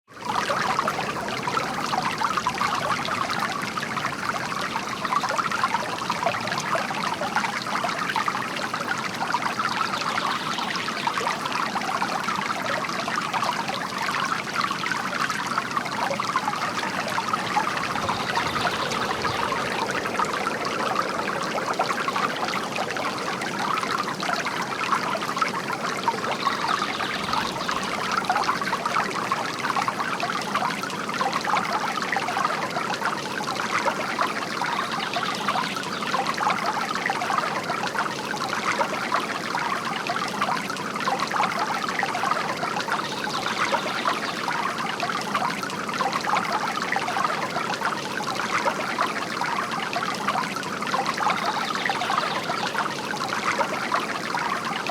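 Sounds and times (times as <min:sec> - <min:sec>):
water fountain trickling and splashing: 0:00.1 - 0:54.9.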